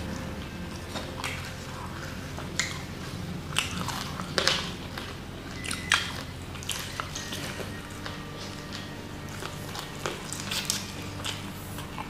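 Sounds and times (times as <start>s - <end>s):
chewing and wet lip-smacking: 0.0s - 12.0s.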